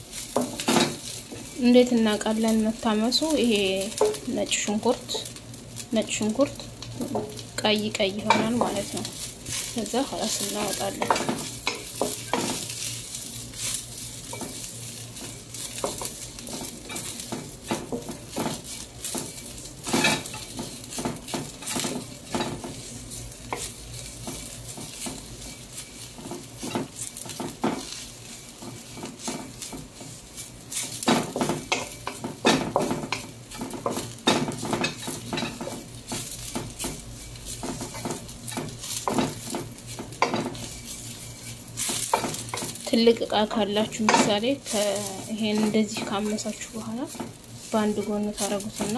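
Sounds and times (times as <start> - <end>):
spatula scraping a pan: 0.0 - 5.4, 6.1 - 48.9
food sizzling: 0.0 - 48.9.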